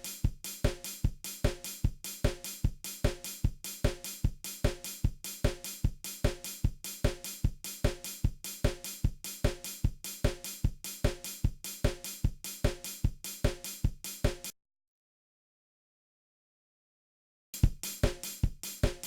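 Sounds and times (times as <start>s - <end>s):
drum kit playing a beat: 0.0s - 14.5s, 17.6s - 19.0s.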